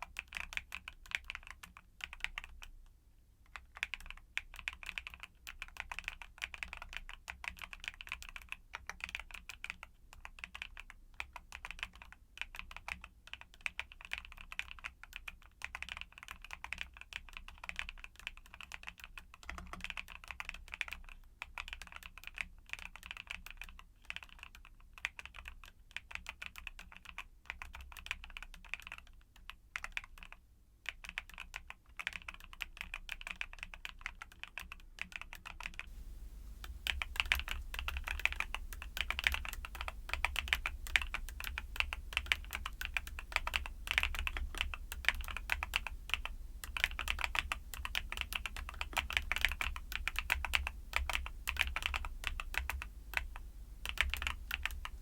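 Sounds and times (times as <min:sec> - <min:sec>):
fast typing on mechanical keyboard: 0:00.0 - 0:02.8, 0:03.4 - 0:36.0, 0:36.6 - 0:55.0.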